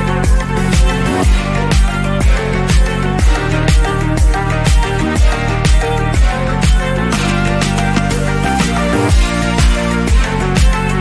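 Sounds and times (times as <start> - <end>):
upbeat electronic dance music: 0.0 - 11.0.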